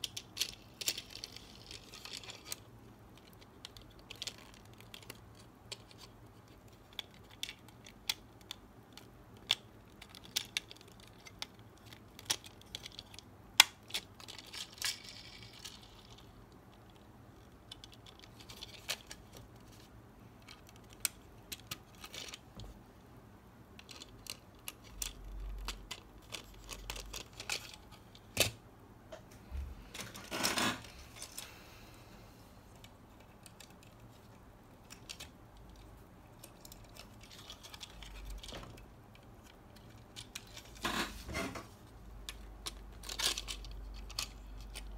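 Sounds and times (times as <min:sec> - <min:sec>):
plastic parts clicking: 0:00.0 - 0:22.7, 0:23.8 - 0:28.6, 0:32.7 - 0:41.1, 0:42.2 - 0:44.9.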